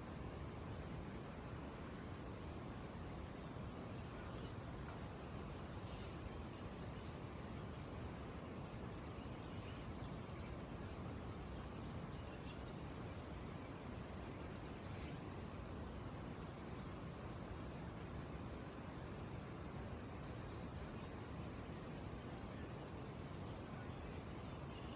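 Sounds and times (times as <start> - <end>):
crickets chirring: 0.0 - 24.9.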